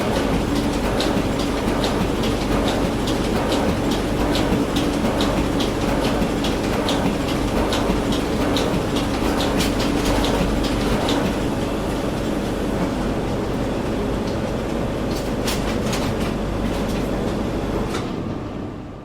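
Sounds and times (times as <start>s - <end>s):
printing machinery clattering: 0.0s - 18.8s
low machine hum: 0.0s - 19.0s.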